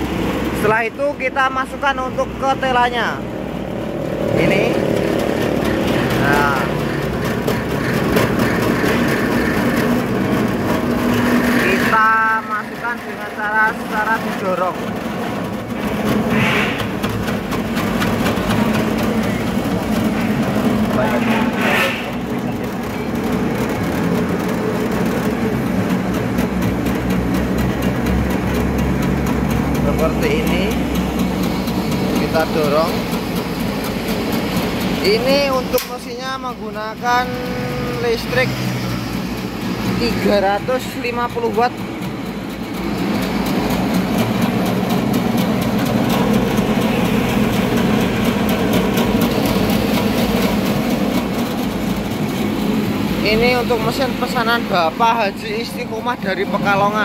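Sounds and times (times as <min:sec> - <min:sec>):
slicing machine humming: 0:00.0 - 0:57.0.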